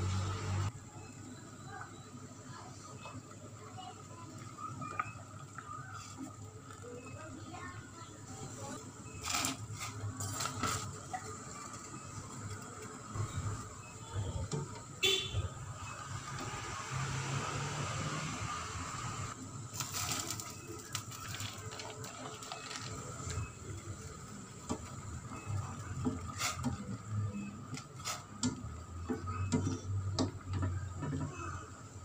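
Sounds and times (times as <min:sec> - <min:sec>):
water boiling in a pot: 0:00.0 - 0:32.0.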